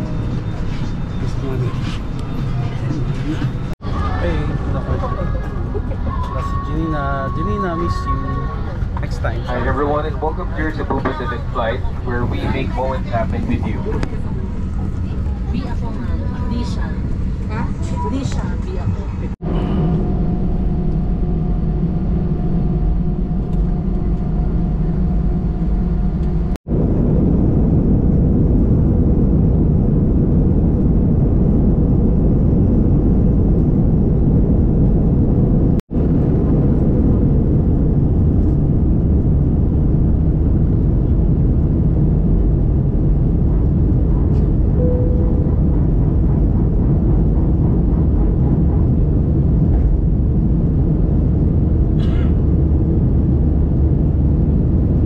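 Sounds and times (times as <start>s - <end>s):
jet engines from cabin: 0.0s - 6.7s, 7.3s - 55.0s.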